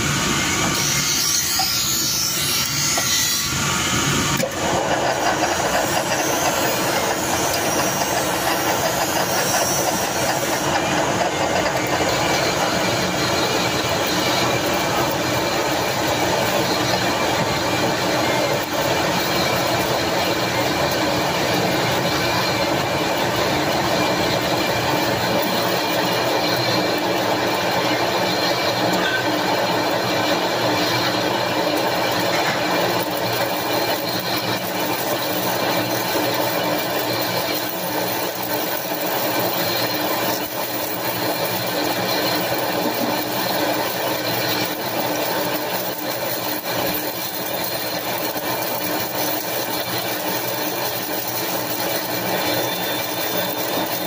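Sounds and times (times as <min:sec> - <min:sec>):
metal lathe running: 0:00.0 - 0:54.0.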